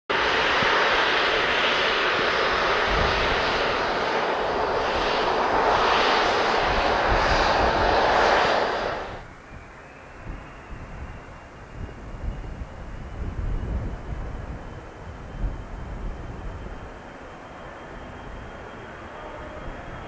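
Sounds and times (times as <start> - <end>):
jet engine roar: 0.1 - 20.0.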